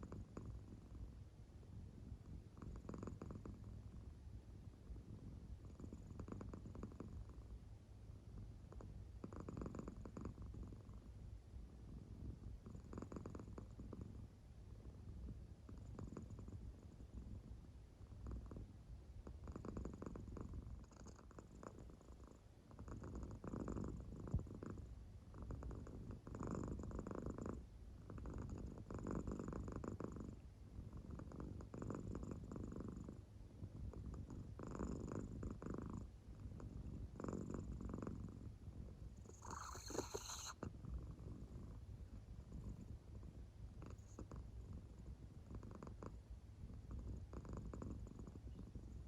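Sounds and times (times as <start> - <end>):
cat purring: 0.0 - 7.6, 8.2 - 49.0.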